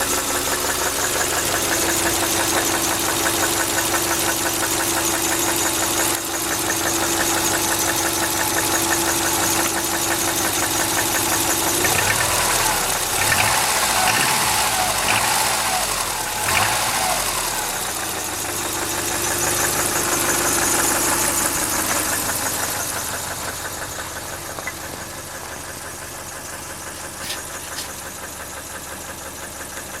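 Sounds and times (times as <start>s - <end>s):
car engine running: 0.0s - 30.0s
rapid engine knock: 0.0s - 30.0s.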